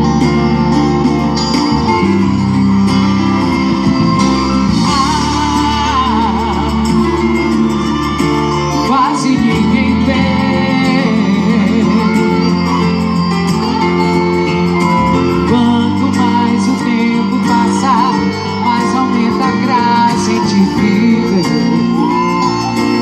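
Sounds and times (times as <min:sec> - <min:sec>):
bass-heavy song over speaker: 0:00.0 - 0:23.0.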